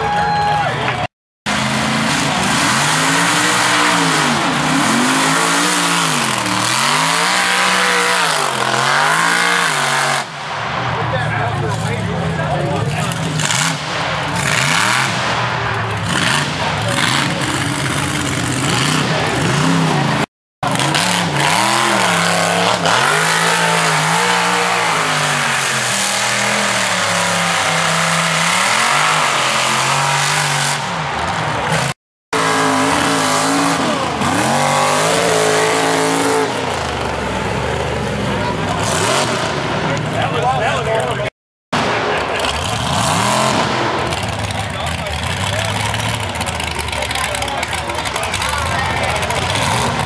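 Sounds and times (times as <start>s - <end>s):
truck engines revving hard: 0.0s - 50.0s.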